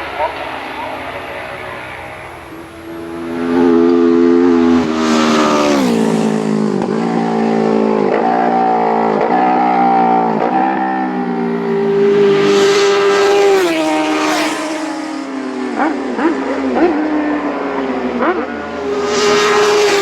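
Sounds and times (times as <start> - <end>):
motorcycle passing at full throttle: 0.0 - 20.0.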